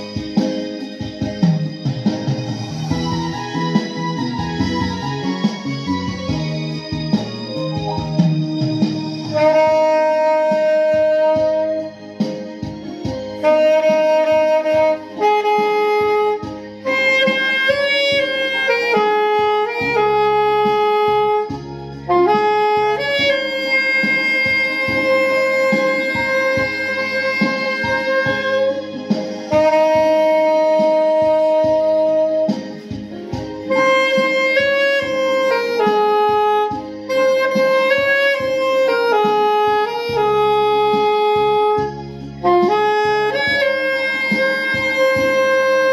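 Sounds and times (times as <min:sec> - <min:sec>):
backing track with steady beat: 0:00.0 - 0:45.9
saxophone slow melody: 0:00.0 - 0:45.9.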